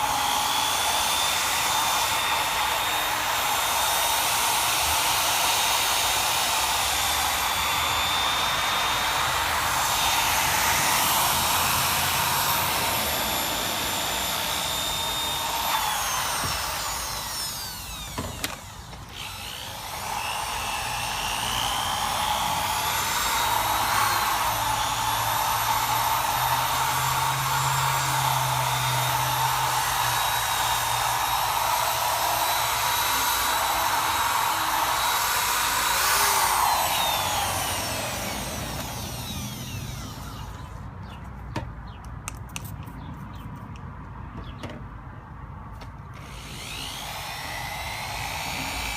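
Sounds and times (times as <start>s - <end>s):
electric drill sanding plastic: 0.0s - 41.2s, 46.1s - 48.9s.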